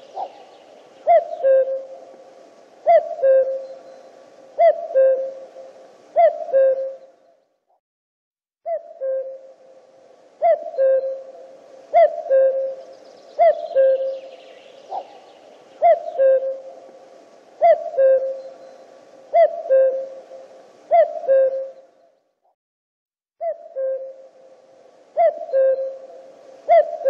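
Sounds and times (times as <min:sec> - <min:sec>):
cuckoo calling: 0:00.0 - 0:07.4, 0:08.7 - 0:22.1, 0:23.4 - 0:27.0.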